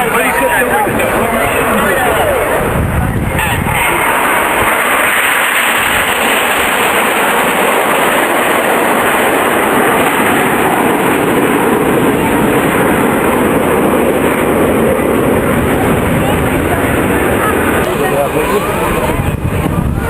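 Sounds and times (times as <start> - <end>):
jet aircraft engine roar: 0.0 - 20.0.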